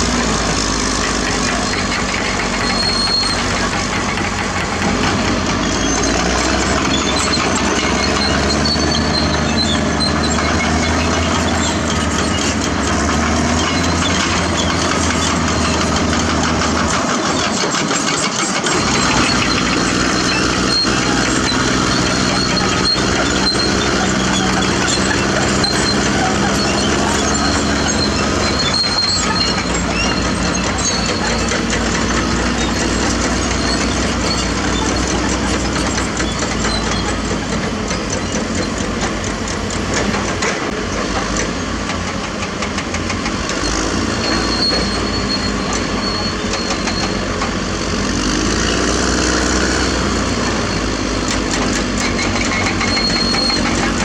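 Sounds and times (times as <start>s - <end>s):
diesel engine running: 0.0s - 54.0s
steel tracks clanking: 0.0s - 54.0s.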